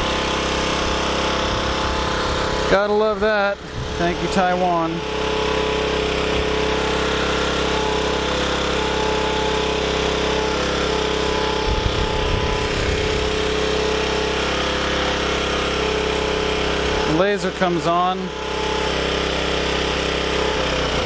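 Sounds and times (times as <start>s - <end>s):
small generator engine running: 0.0s - 21.0s.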